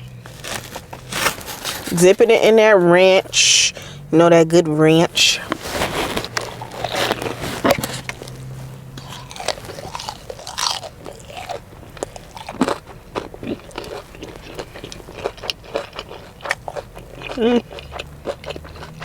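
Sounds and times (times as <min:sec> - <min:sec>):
crunchy chewing of fried chicken: 0:00.0 - 0:04.1, 0:05.0 - 0:19.0.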